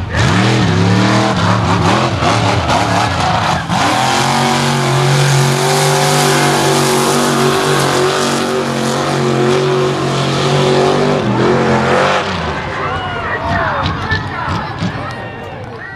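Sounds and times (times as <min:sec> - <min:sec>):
truck engine revving: 0:00.0 - 0:15.8.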